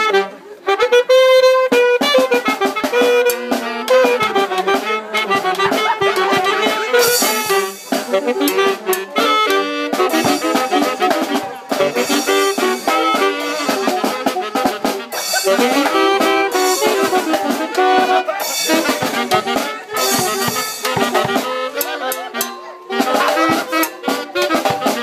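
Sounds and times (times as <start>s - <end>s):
brass band playing: 0.0s - 25.0s
drum and cymbal strokes: 2.5s - 25.0s.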